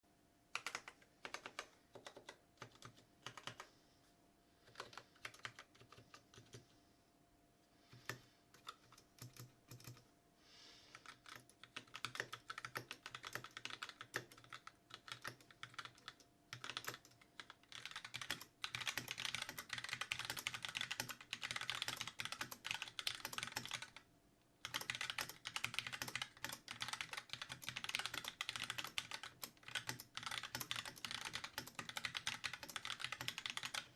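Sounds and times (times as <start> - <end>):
typing on mechanical keyboard: 0.5 - 3.7, 4.6 - 6.6, 7.9 - 10.0, 10.9 - 24.0, 24.6 - 33.9.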